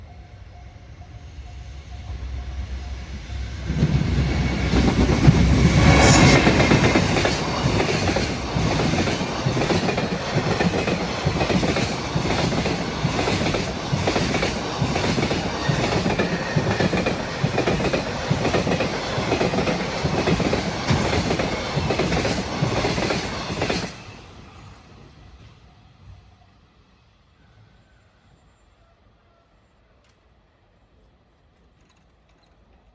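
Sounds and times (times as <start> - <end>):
electric locomotive passing: 0.0 - 32.9.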